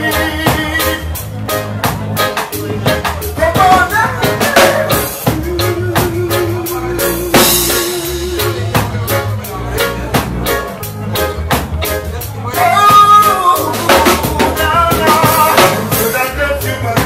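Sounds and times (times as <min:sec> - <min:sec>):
reggae band playing: 0:00.0 - 0:17.0.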